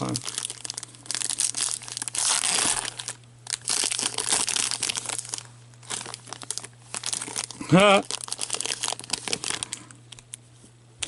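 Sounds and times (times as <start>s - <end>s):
plastic wrapping crinkling and tearing: 0.0s - 10.4s.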